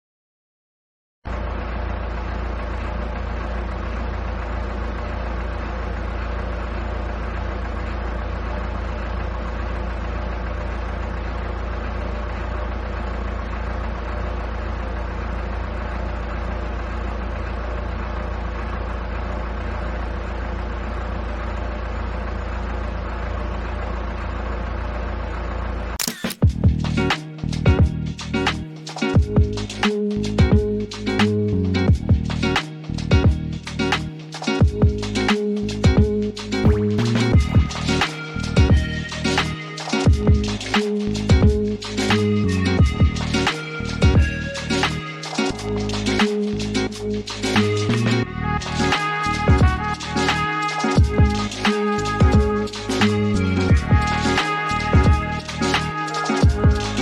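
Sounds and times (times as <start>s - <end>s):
steady mechanical drone: 1.3s - 57.0s.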